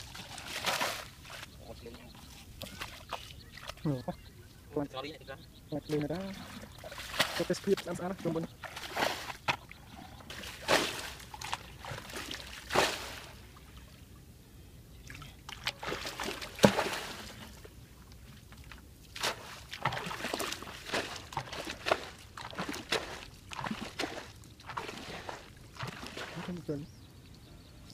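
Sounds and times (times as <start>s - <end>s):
muddy water splashing and pouring: 0.0s - 3.9s, 6.0s - 13.8s, 15.1s - 17.7s, 18.6s - 26.8s.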